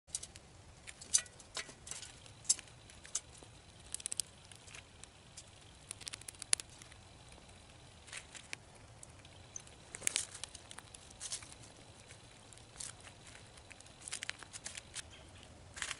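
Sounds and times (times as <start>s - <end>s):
squirrel clicking in seeds: 0.1s - 15.9s.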